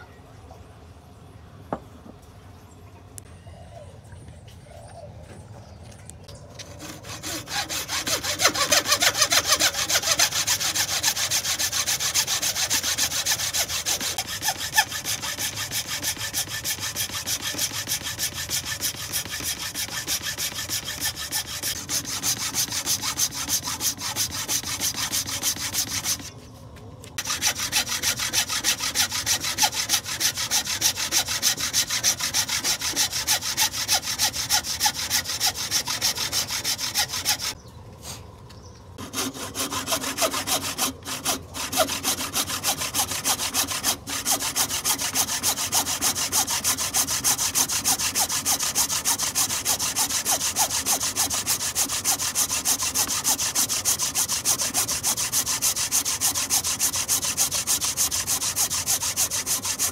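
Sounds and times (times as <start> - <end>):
hand saw cutting wood: 6.6 - 26.4, 27.2 - 37.6, 39.0 - 59.9.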